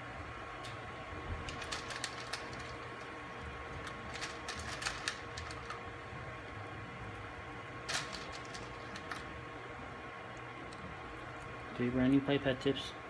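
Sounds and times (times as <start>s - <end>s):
faint electronic hum: 0.0s - 13.0s.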